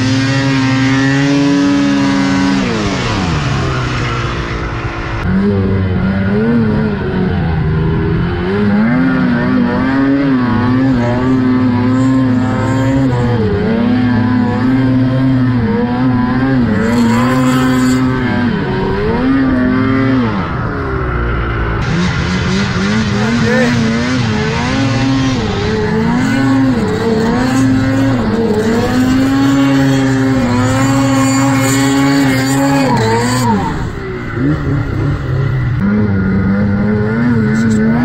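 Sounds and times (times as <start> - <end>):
snowmobile engine revving: 0.0 - 38.0.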